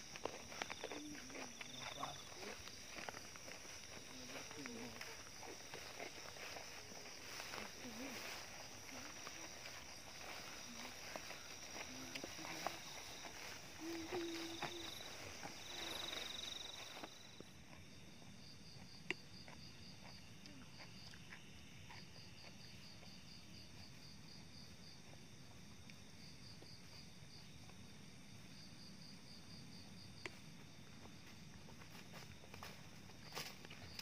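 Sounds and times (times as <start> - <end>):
people moving through grass: 0.0 - 25.8, 30.4 - 34.0
insects chirping: 0.0 - 34.0.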